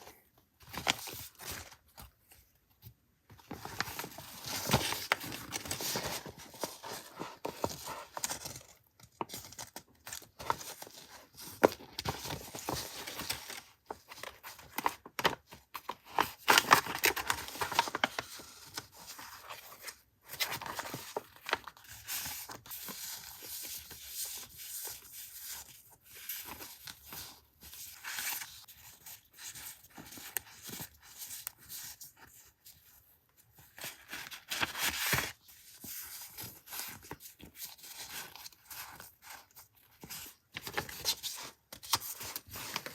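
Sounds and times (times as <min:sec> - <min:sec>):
paper and packaging rustling: 0:00.0 - 0:42.9.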